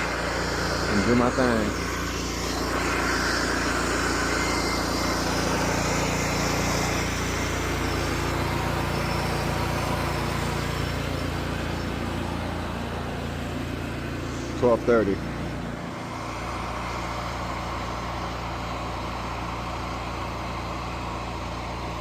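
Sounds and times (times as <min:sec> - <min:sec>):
pressure washer engine running: 0:00.0 - 0:22.0.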